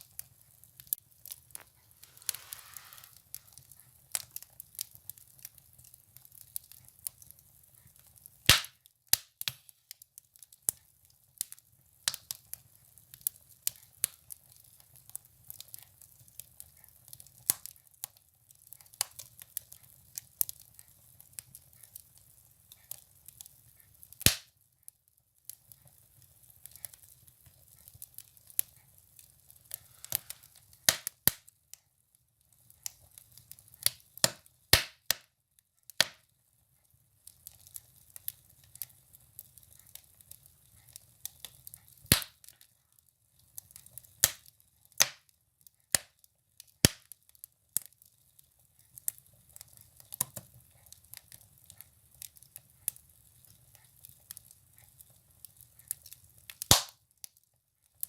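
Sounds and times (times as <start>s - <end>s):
firewood crackling in a stove: 0.0s - 58.0s.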